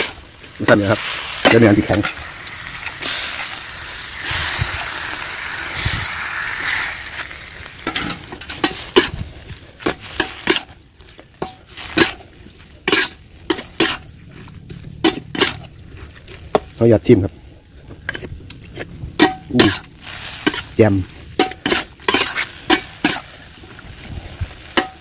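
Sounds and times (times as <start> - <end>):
beef sizzling in a pan: 0.0 - 14.4, 19.2 - 25.0
spatula scraping a pan: 0.0 - 16.7, 19.2 - 25.0.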